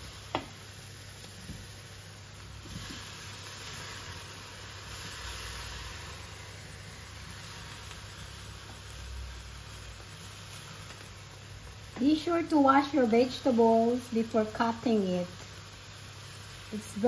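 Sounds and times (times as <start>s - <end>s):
steak and vegetables sizzling: 0.0s - 17.0s.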